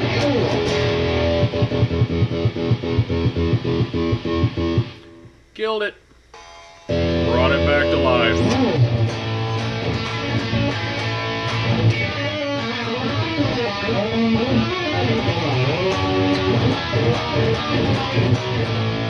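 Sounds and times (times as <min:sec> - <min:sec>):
electric guitar riff: 0:00.0 - 0:05.5, 0:06.4 - 0:19.0.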